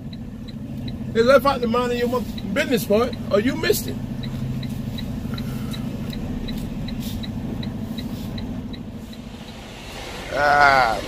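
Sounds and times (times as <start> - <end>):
truck engine droning: 0.0 - 11.0
turn signal ticking: 0.0 - 11.0.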